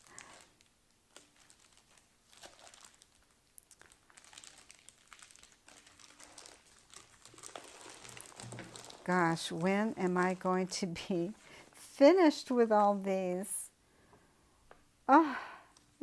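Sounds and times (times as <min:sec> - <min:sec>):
packaging crinkling: 0:00.0 - 0:13.4.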